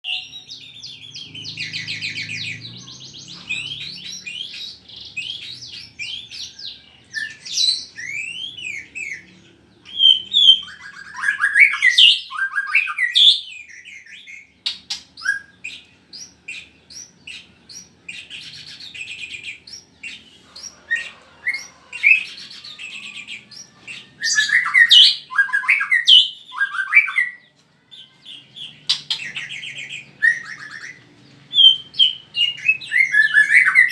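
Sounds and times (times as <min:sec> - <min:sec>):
songbird singing trills and chirps: 0:00.0 - 0:33.9.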